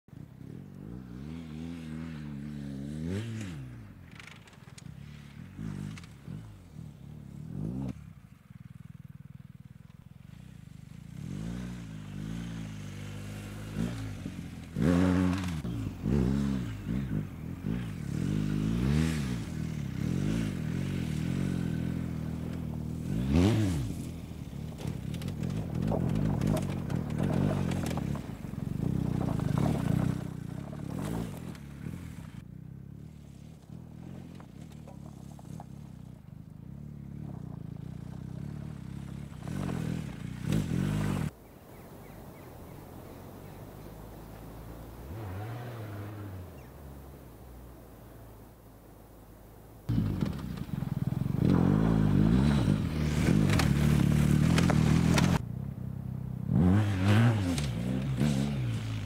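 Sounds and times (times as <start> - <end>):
motorcycle engine revving: 0.1 - 48.8, 49.8 - 59.0.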